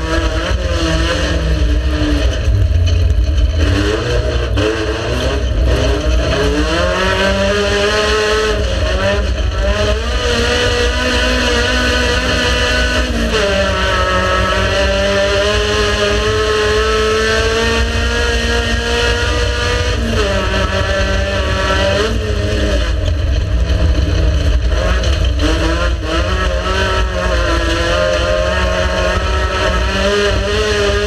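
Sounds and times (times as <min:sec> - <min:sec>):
race car engine running hard: 0:00.0 - 0:31.0.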